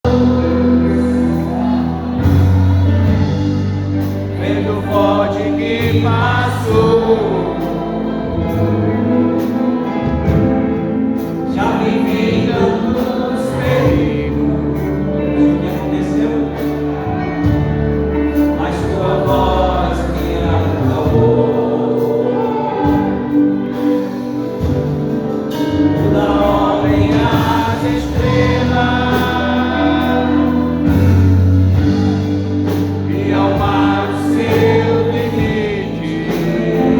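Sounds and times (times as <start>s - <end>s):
band playing: 0.0s - 36.9s
group singing gospel song: 0.0s - 36.9s
sustained bass notes: 0.0s - 36.9s.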